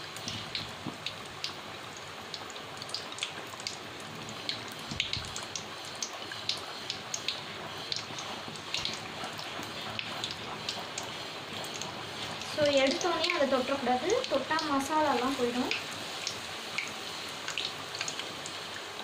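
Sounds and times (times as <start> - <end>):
onion rings deep-frying in oil: 0.0 - 19.0.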